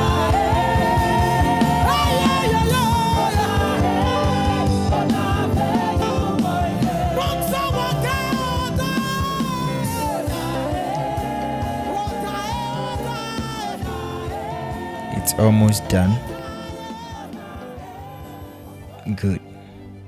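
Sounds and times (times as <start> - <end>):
steady drum beat: 0.0 - 18.6
person singing: 0.0 - 20.0.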